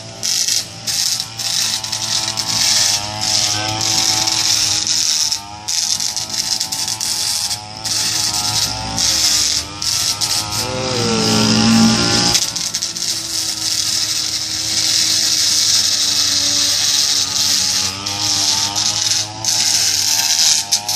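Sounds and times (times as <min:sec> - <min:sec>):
brush cutter engine running: 0:00.0 - 0:20.9
metal blade scraping concrete: 0:00.0 - 0:20.9.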